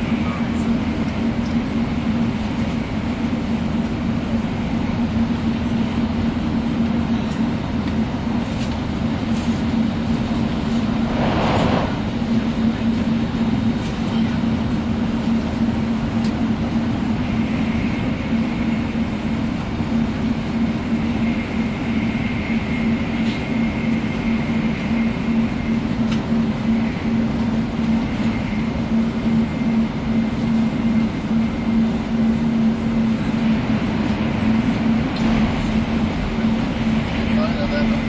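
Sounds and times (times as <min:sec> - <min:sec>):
train low hum: 0:00.0 - 0:38.0.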